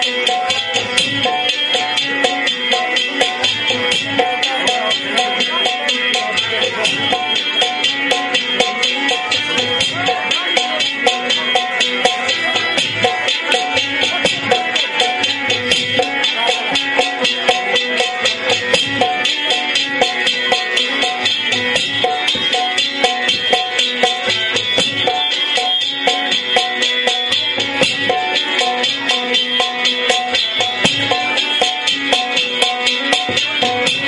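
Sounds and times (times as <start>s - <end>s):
drum and rattle beat: 0.0s - 34.0s
plucked string instrument melody: 0.0s - 34.0s.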